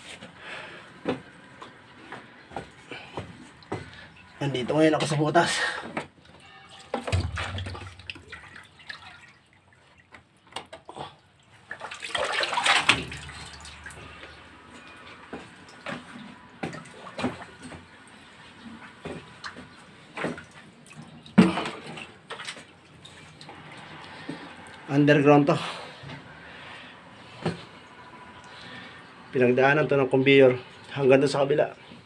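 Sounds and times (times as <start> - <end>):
water splashing and dripping: 1.6 - 25.0, 26.3 - 31.0.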